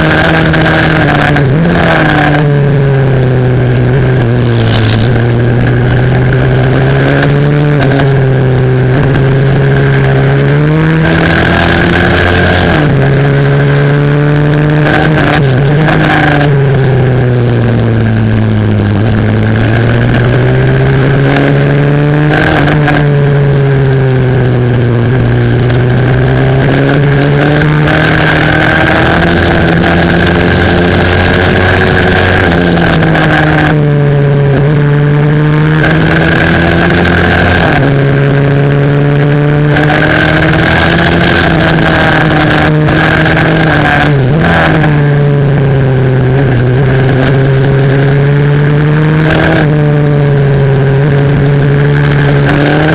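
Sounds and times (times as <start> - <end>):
pit bike engine racing: 0.0 - 52.9.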